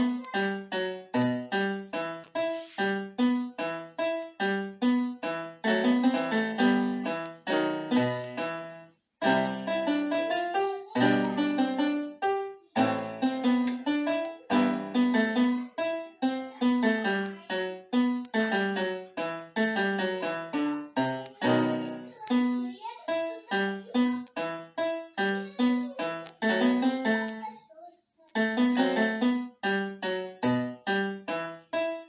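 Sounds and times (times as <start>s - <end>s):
light piano piece: 0.0s - 27.6s, 28.3s - 32.0s.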